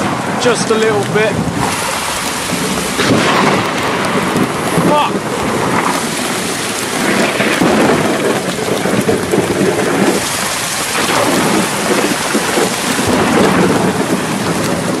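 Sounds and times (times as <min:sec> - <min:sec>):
heavy rain falling: 0:00.0 - 0:15.0
thunder rumbling: 0:00.0 - 0:15.0.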